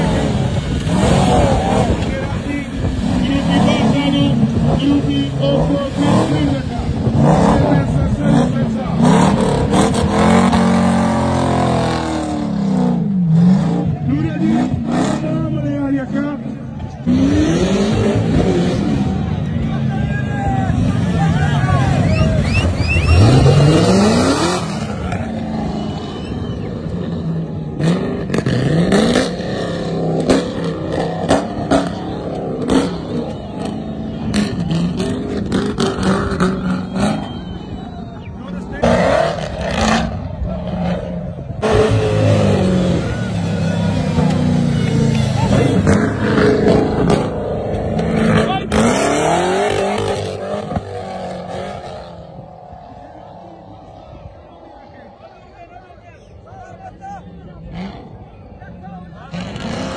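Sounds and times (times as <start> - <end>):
buggy engine revving: 0.0 - 55.8, 56.7 - 59.9.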